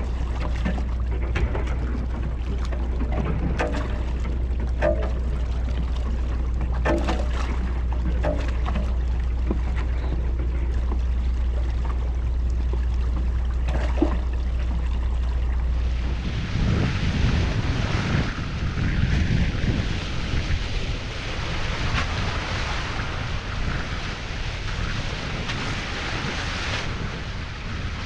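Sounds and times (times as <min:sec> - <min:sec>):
steady low hum: 0:00.0 - 0:28.0
water splashing and rushing: 0:00.0 - 0:28.0
wind on microphone: 0:00.0 - 0:28.0.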